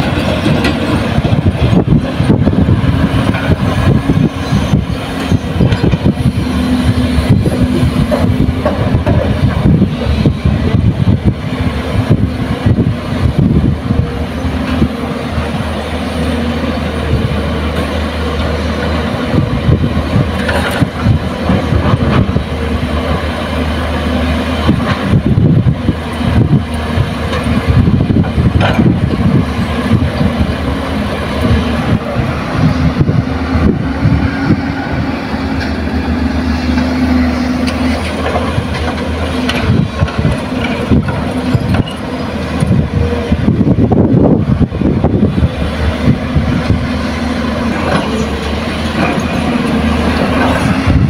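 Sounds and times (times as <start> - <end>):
diesel engines running: 0.0 - 51.0
knocks and rumbles of digging: 0.0 - 51.0.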